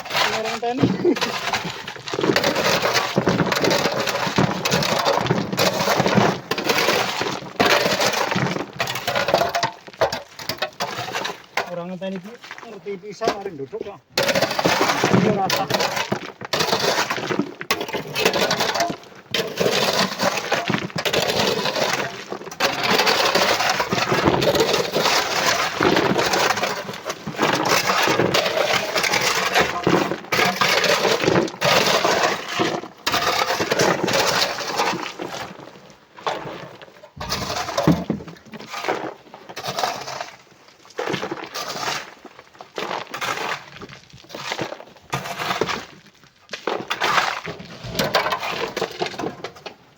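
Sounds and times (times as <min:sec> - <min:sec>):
rock and coral clattering: 0:00.0 - 0:49.9.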